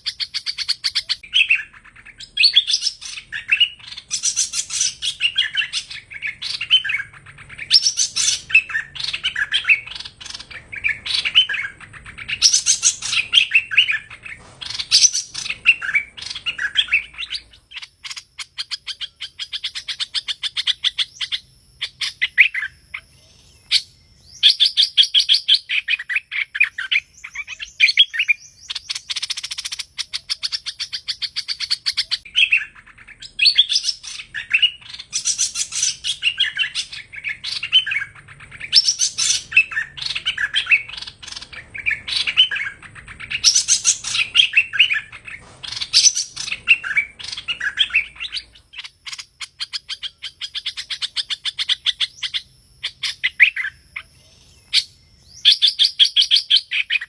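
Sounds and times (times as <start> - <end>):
bird singing high chirps: 0.0 - 57.0.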